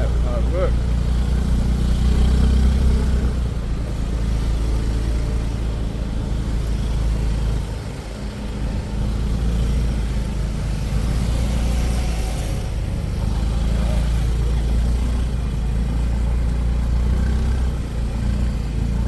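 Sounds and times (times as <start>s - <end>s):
vehicle low rumble: 0.0s - 19.0s.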